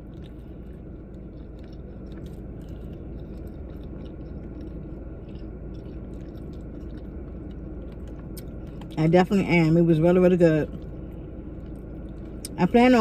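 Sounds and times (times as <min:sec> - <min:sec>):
chewing soft food: 0:00.0 - 0:09.1, 0:10.6 - 0:13.0
steady low hum: 0:00.0 - 0:13.0.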